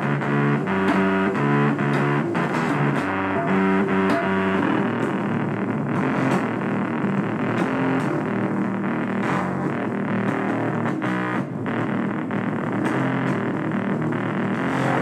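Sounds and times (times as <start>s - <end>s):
bass guitar: 0.0s - 15.0s
distorted electric guitar: 0.0s - 15.0s
steady drum beat: 0.0s - 15.0s.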